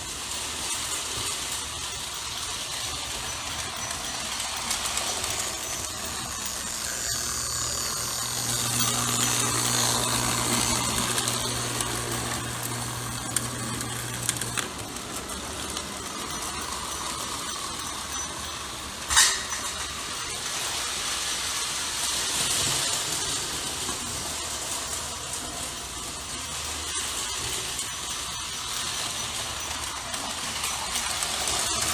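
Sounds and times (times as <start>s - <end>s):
toy train whirring: 0.0s - 31.9s.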